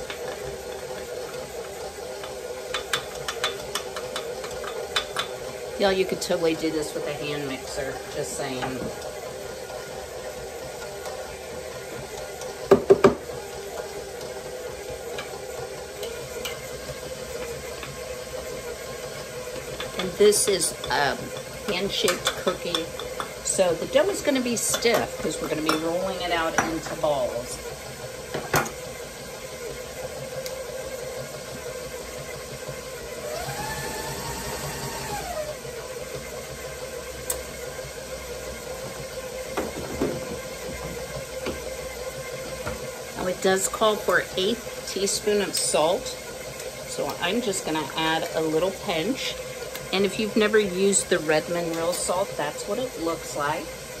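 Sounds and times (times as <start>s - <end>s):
stand mixer running: 0.0s - 54.0s.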